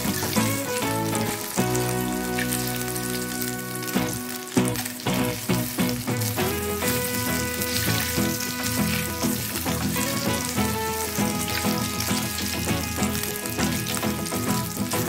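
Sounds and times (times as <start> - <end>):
music: 0.0 - 15.0
sausages sizzling in oil: 0.0 - 15.0.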